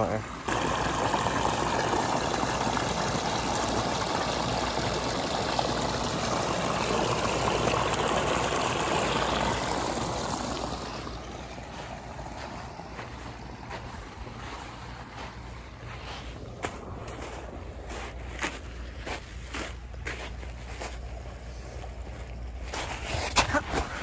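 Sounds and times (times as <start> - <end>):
stream running and trickling: 0.0 - 24.0.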